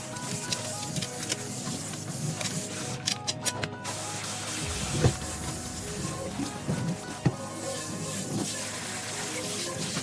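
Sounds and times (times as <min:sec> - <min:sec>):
gentle background music: 0:00.0 - 0:10.0.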